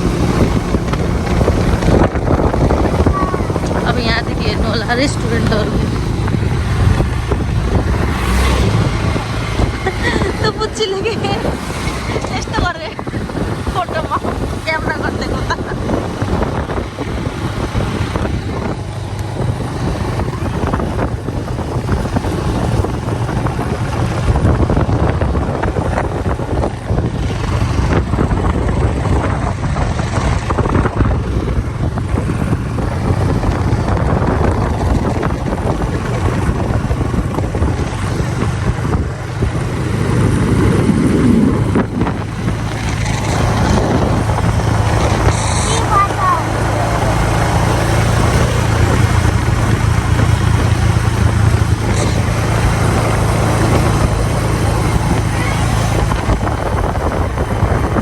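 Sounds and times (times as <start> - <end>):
engine and road rumble: 0.0 - 58.0
wind buffeting microphone: 0.0 - 58.0.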